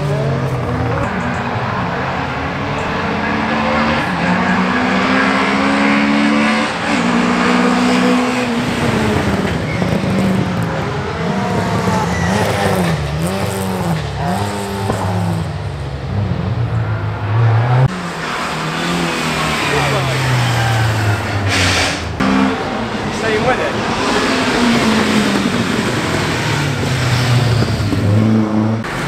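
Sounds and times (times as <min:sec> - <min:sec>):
rally car engines revving past: 0:00.0 - 0:29.0.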